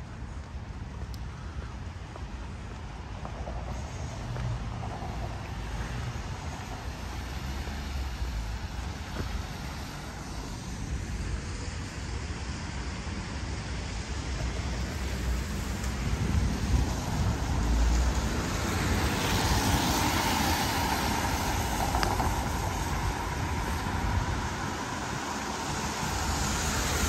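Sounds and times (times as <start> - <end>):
engine rumble of traffic: 0.0 - 27.0
tyre hiss on wet road: 3.7 - 27.0.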